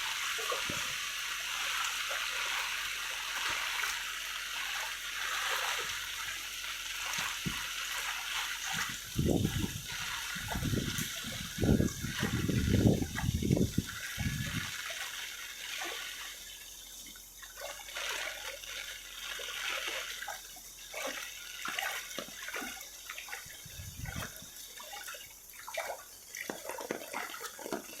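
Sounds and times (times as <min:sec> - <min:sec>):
water dripping and splashing: 0:00.0 - 0:28.0.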